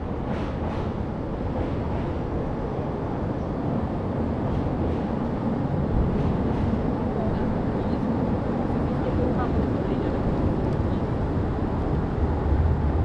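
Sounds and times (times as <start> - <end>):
low rumble of city ambience: 0.0 - 13.0.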